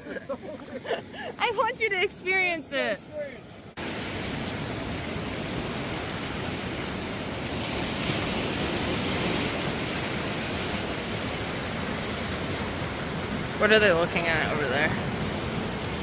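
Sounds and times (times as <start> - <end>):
surf washing against rocks: 0.0 - 16.0.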